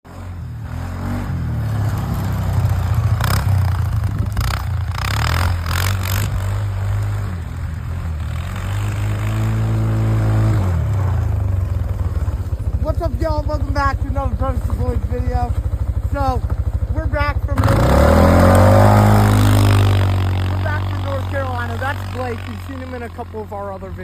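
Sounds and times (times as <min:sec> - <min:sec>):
quad engine revving: 0:00.1 - 0:24.0.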